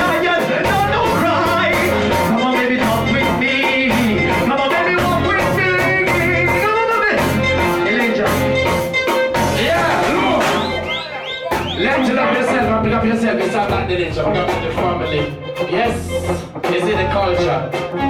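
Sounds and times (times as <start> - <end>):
man singing into a microphone: 0.0 - 8.6, 9.5 - 10.7, 11.6 - 18.0
reggae music with heavy bass: 0.0 - 18.0.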